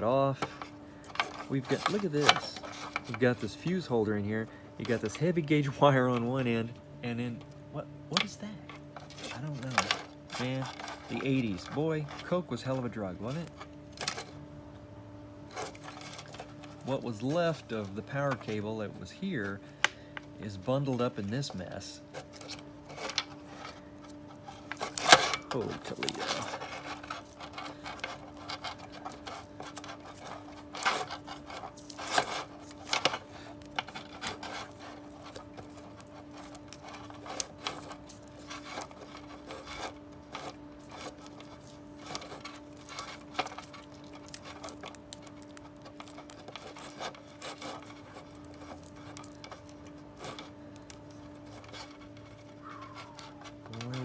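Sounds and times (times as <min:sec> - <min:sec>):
steady hum: 0:00.0 - 0:54.0
wires and connectors rubbing clicking: 0:00.4 - 0:04.0, 0:07.4 - 0:14.3, 0:15.4 - 0:20.3, 0:20.9 - 0:54.0.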